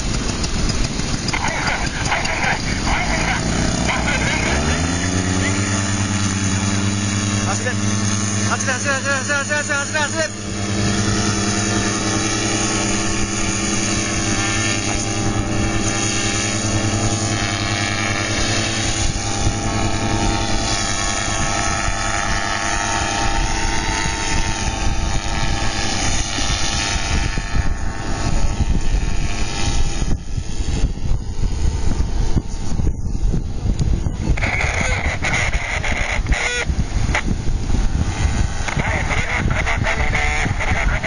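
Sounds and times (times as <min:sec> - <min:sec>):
paramotor engine droning: 0:00.0 - 0:41.0.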